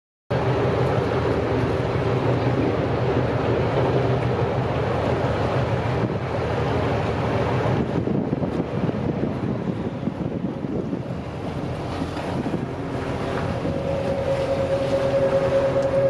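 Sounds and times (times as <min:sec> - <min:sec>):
boat engine humming: 0:00.3 - 0:16.0
water churning: 0:00.3 - 0:16.0
wind noise: 0:00.6 - 0:16.0.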